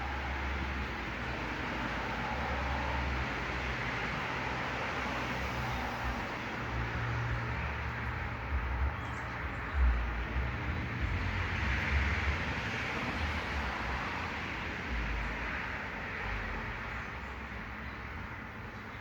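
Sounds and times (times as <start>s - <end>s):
wind rumble on microphone: 0.0s - 17.7s
distant road traffic hiss: 0.0s - 19.0s.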